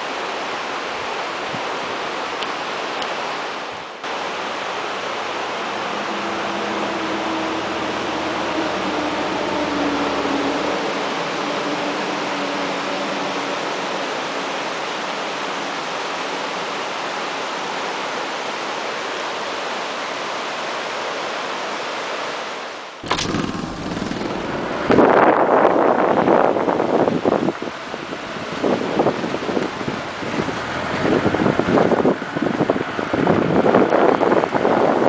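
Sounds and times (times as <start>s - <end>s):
flowing floodwater rushing: 0.0s - 35.0s.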